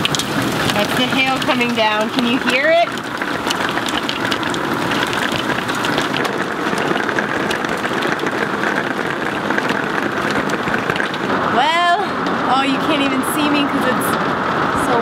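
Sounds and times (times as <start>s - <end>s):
hailstones striking: 0.0s - 14.6s
heavy rain: 0.0s - 15.0s.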